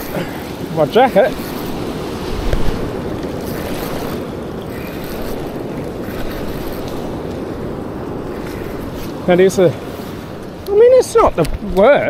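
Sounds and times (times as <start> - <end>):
wind on microphone: 0.0 - 11.8
surf washing on beach: 0.0 - 12.0.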